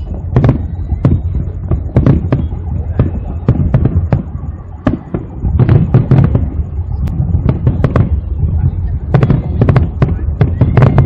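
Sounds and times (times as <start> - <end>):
firework shell bursts crackling: 0.0 - 11.0
low rumble of explosions: 0.0 - 11.0.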